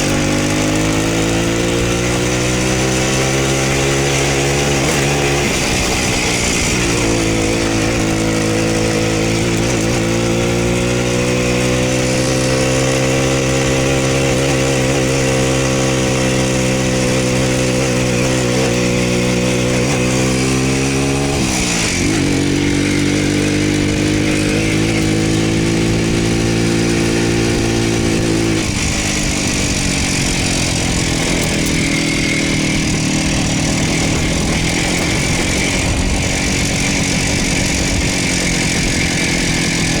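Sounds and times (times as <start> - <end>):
two-stroke motorcycle engine running: 0.0 - 40.0.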